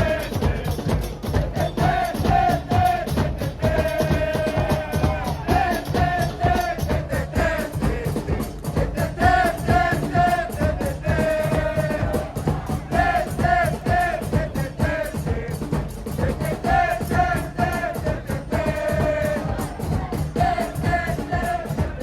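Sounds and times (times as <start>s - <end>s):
bass drum beat: 0.0s - 22.0s
crowd chanting: 0.0s - 22.0s.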